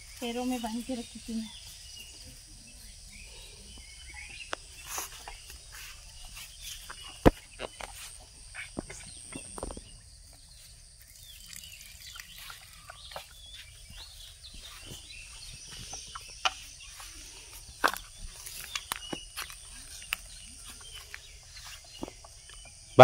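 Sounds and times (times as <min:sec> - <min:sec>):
bird chirps: 0:00.0 - 0:23.0
high insect drone: 0:00.0 - 0:23.0.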